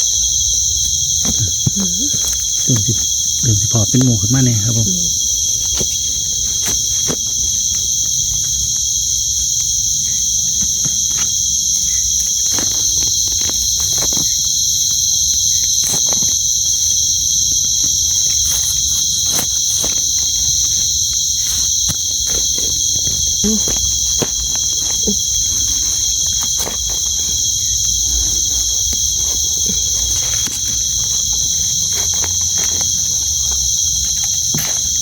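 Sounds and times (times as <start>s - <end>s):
close clicks and rustles: 0.0s - 35.0s
night insects chorus: 0.0s - 35.0s.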